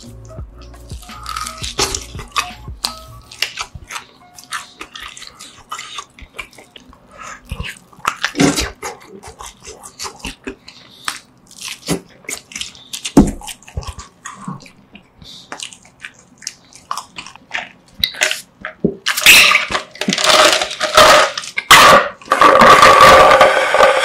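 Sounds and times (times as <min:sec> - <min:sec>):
biting and chewing: 0:00.0 - 0:24.0.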